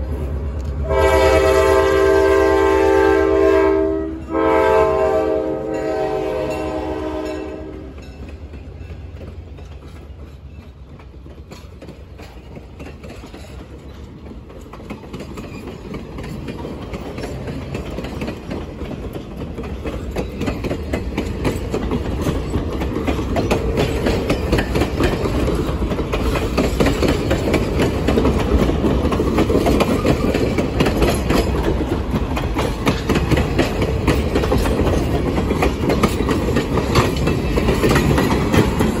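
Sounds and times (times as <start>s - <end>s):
train cars rumbling past: 0.0s - 39.0s
wheels clacking over rail joints: 7.2s - 39.0s.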